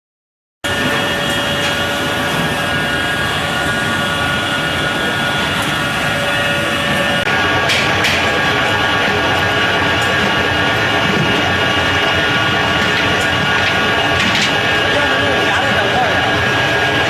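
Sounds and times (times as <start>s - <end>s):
pellet mill running with whine: 0.7s - 17.0s.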